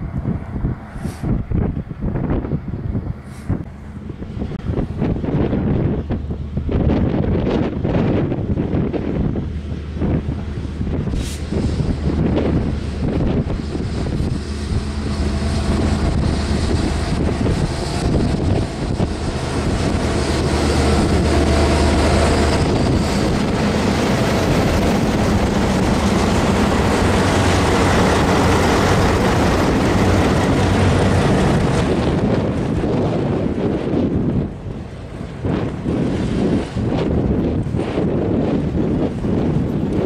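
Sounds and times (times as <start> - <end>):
diesel locomotives rolling past: 0.0 - 40.0
wind buffeting microphone: 0.0 - 40.0.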